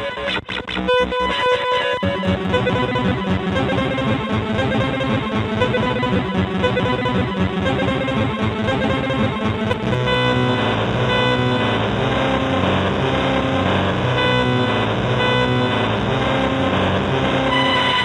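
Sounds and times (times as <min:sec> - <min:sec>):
pulsing tones and held chords: 0:00.0 - 0:18.0.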